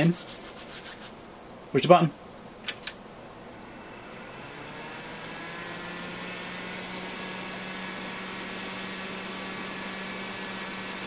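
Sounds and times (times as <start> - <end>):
cooling fan rushing: 0.0 - 11.0.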